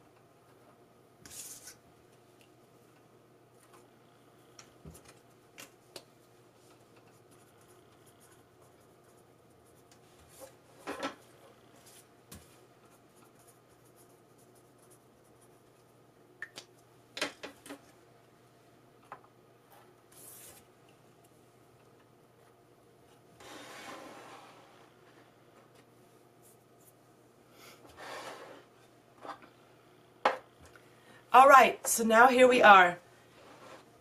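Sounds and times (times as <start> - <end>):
faint room hum: 0.0 - 34.0.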